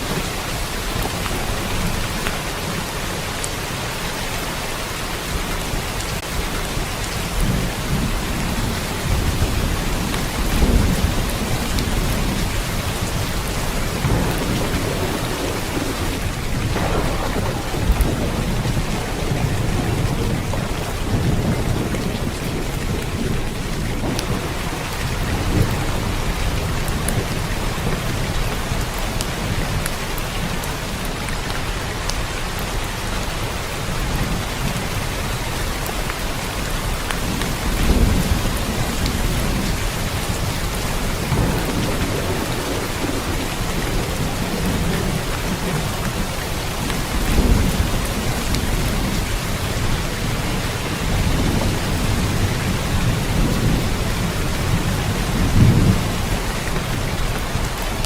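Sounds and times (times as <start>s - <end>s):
thunder rumbling: 0.0s - 31.4s, 33.8s - 58.0s
heavy rain on a surface: 0.0s - 58.0s.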